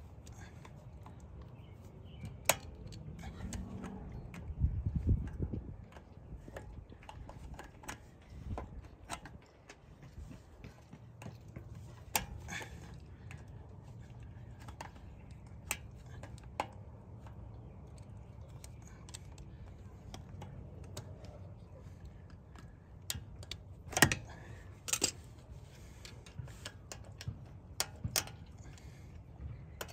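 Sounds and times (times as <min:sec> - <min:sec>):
small metal clicks and scraping: 0:00.0 - 0:29.9.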